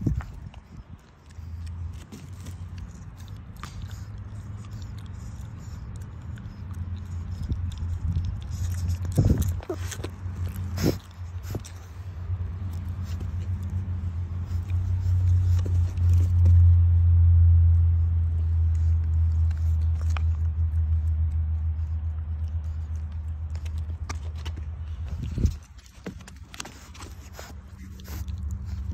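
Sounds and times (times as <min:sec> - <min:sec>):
puppy snuffling and sniffing: 0:00.0 - 0:28.9.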